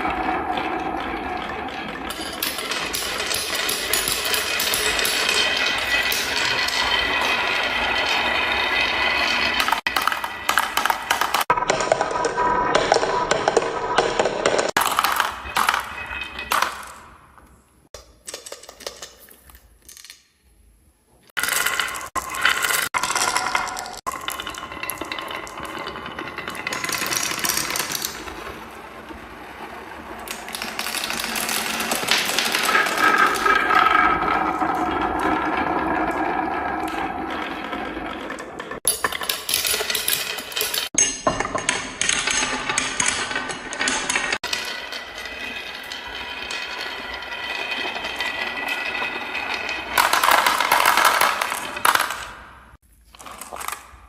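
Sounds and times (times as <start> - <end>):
marbles rolling and clattering: 0.0 - 20.3, 21.3 - 54.0.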